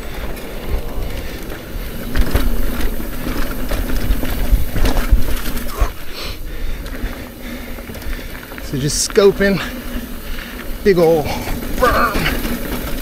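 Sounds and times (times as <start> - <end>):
bike knocks and rattles: 0.0 - 13.0
tyres rumbling on dirt: 0.0 - 13.0
wind rushing over microphone: 0.0 - 13.0.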